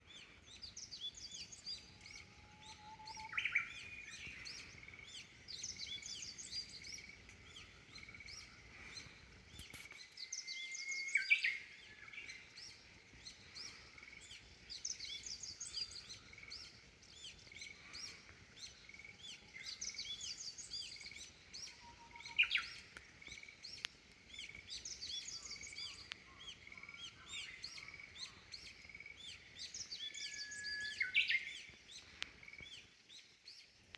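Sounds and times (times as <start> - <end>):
birds chirping chorus: 0.0 - 33.9.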